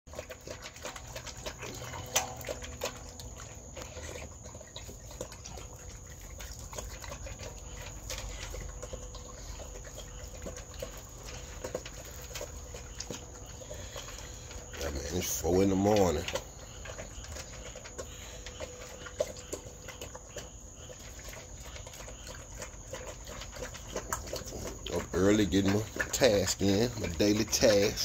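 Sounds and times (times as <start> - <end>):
dog crunching kibble: 0.1 - 28.0
kibble clicking against metal bowl: 0.1 - 28.0.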